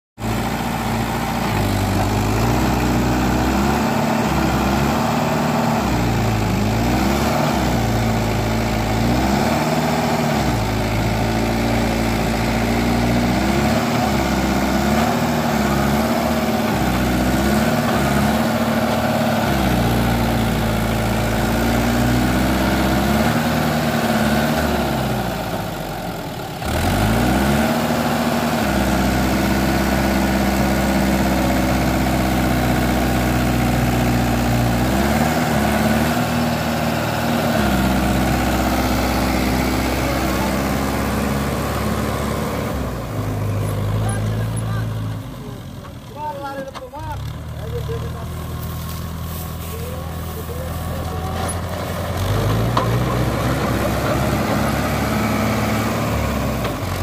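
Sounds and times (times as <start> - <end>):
tractor diesel engine revving: 0.2 - 57.0.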